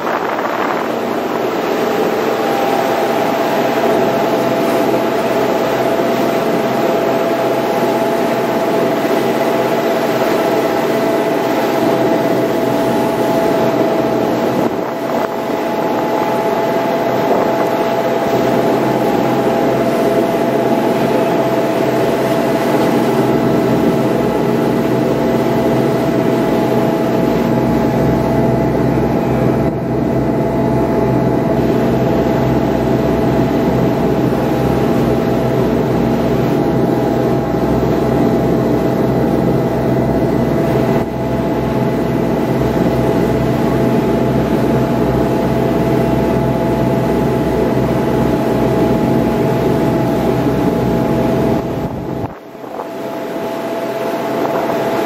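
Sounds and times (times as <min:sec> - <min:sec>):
boat engines droning: 0:00.0 - 0:55.0
rushing water: 0:00.0 - 0:55.0
wind: 0:00.0 - 0:55.0.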